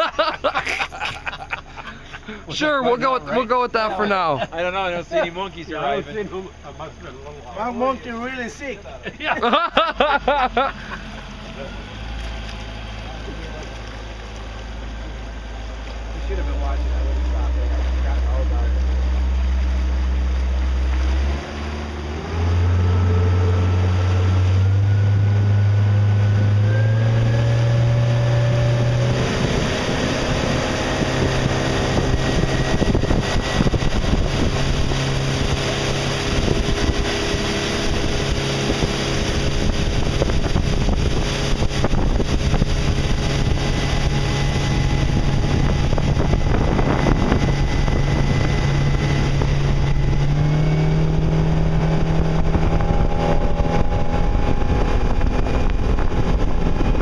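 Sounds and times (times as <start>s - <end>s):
motorboat engine: 0.0s - 57.0s
rushing water: 0.0s - 57.0s
wind: 0.0s - 57.0s.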